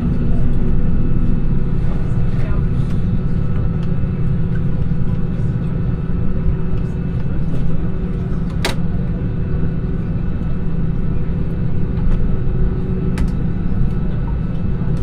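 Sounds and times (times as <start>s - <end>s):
aircraft cabin rumble: 0.0s - 15.0s.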